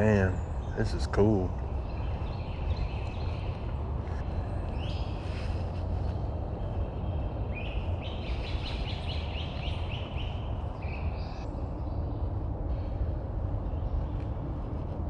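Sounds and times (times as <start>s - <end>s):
songbird singing: 0.0s - 15.0s
steady low rumble: 0.0s - 15.0s.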